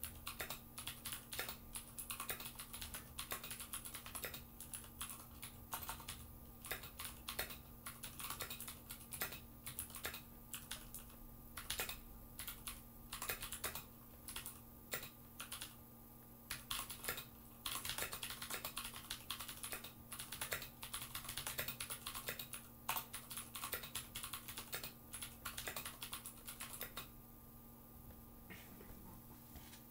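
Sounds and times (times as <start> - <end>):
mechanical keyboard typing: 0.0 - 15.8, 16.5 - 27.1.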